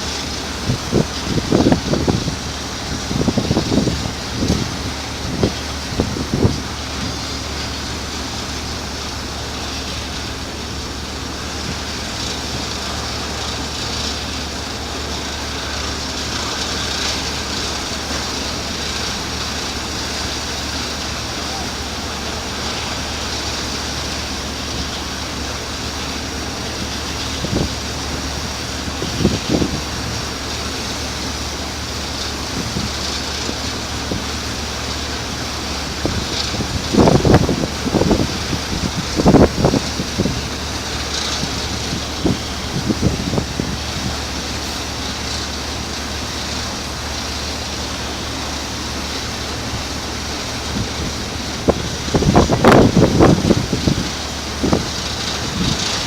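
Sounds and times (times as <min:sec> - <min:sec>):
boat engine drone: 0:00.0 - 0:56.0
rushing hiss: 0:00.0 - 0:56.0.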